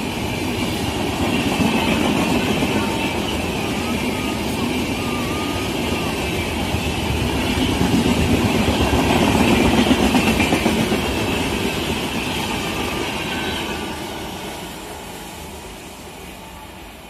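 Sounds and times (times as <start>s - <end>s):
fast train passing: 0.0s - 17.0s.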